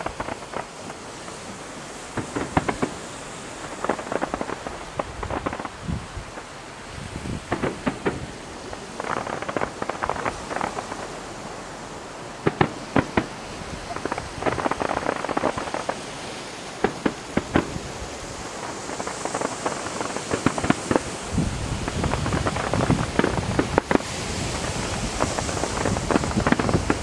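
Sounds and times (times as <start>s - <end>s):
fireworks bangs: 0.0s - 6.6s, 7.3s - 11.2s, 12.4s - 27.0s
fireworks crackling: 0.0s - 27.0s.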